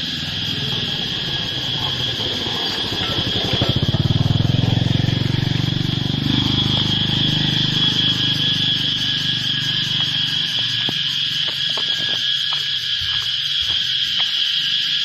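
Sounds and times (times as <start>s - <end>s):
motorbike engine running: 0.0s - 12.1s
insects chirring: 0.0s - 15.0s.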